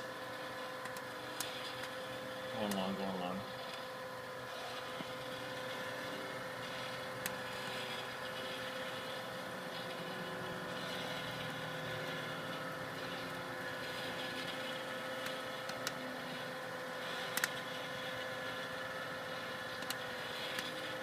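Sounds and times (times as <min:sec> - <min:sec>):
coffee roaster whirring: 0:00.0 - 0:21.0.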